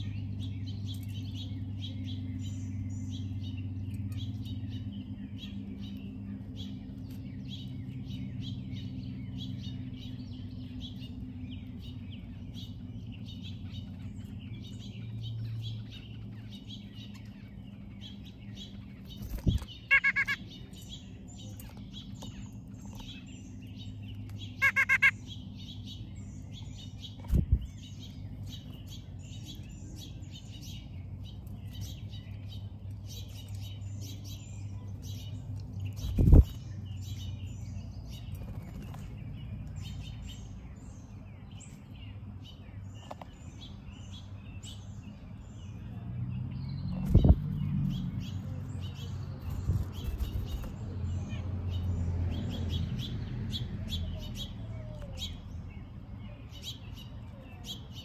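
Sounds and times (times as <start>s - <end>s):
steady low hum: 0.0s - 52.2s
birds chirping and singing: 0.0s - 58.0s.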